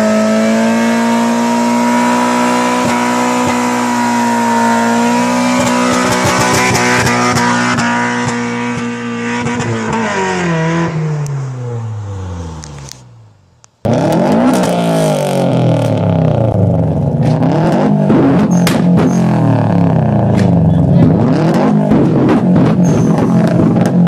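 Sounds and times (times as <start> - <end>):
car engine at high revs: 0.0 - 24.0
car engine starting and revving: 0.0 - 24.0.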